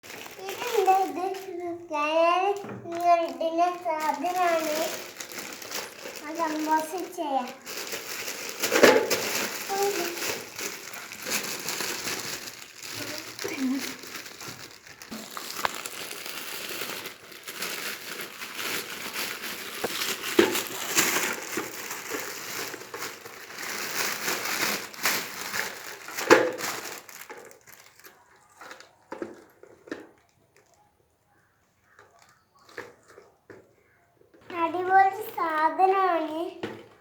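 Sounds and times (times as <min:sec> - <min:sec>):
packaging crinkling and rustling: 0:00.0 - 0:30.8, 0:31.4 - 0:37.0
packaging crackles: 0:00.0 - 0:34.0.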